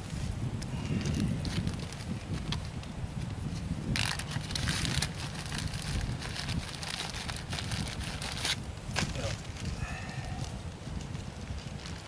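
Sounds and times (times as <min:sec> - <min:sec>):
dry tinder crackling: 0:00.0 - 0:12.0
wind rumble on microphone: 0:00.0 - 0:12.0.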